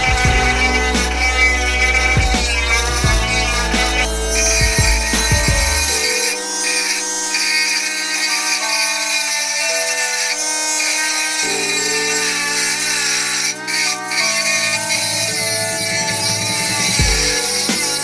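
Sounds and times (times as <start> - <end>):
background music with held chords: 0.0 - 18.0
motor grinder grinding: 0.0 - 18.0.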